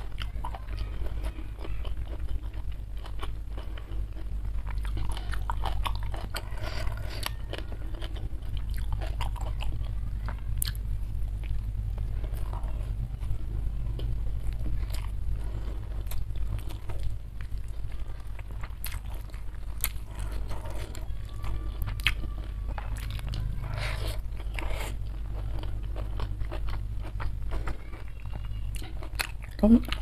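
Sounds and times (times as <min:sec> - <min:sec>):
person chewing food: 0:00.0 - 0:30.0
steady low hum: 0:00.0 - 0:30.0.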